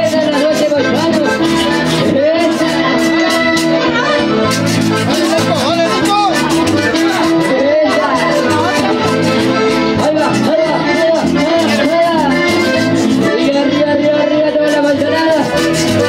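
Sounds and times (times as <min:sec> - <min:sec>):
quick percussion beat: 0:00.0 - 0:03.8, 0:04.4 - 0:13.6, 0:14.6 - 0:16.0
accordion: 0:00.0 - 0:16.0
folk dance music: 0:00.0 - 0:16.0
guitar: 0:00.0 - 0:16.0.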